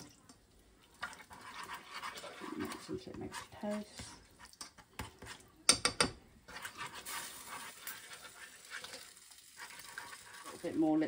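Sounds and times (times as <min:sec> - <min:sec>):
utensil scraping saucepan: 0:00.9 - 0:11.0.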